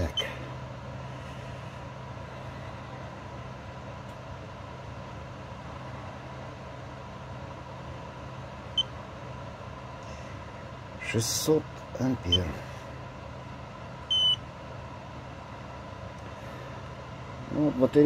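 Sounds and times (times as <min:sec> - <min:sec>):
electrical hum with whine: 0:00.0 - 0:18.0.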